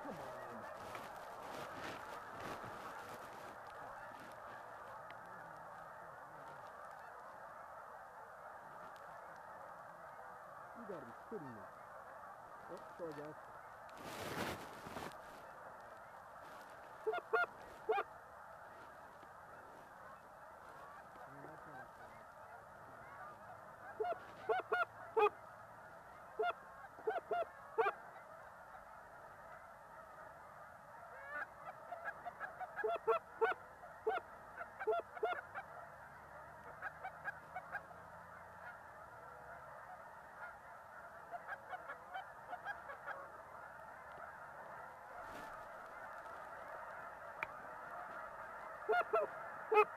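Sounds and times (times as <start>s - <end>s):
geese honking: 0.0s - 49.9s.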